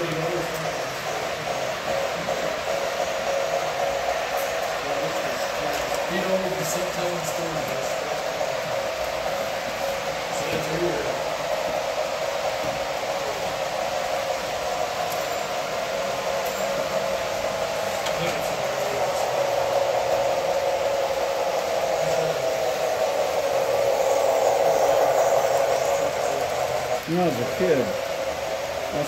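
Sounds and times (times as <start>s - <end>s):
model train motor whirring: 0.0s - 29.0s.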